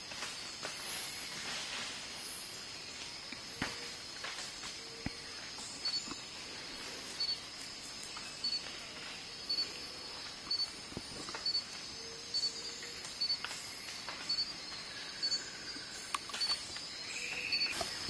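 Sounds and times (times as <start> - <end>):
high insect hiss: 0.0 - 18.0.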